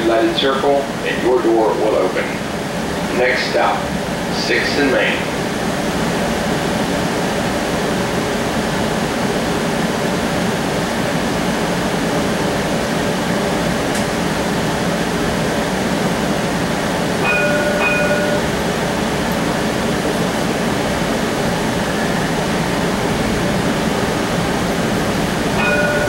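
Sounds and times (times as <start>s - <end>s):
streetcar running on track: 0.0s - 26.0s.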